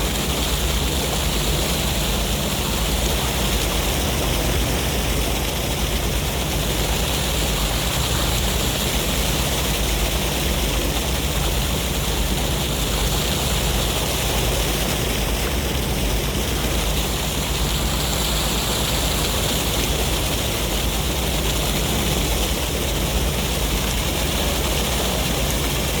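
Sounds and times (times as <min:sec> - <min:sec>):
sea waves rushing: 0:00.0 - 0:26.0
wind: 0:00.0 - 0:26.0.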